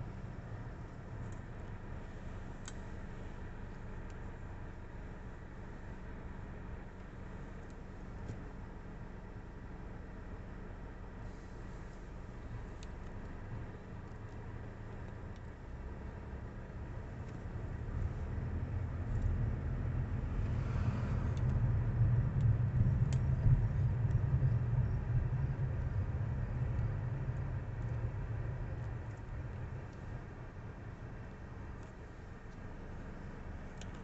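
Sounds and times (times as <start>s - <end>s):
motor vehicle rumble: 0.0s - 34.0s.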